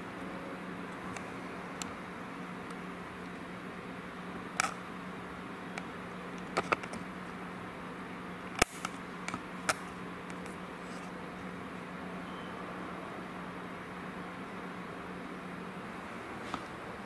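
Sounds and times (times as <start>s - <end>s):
room hiss and low hum: 0.0s - 17.0s.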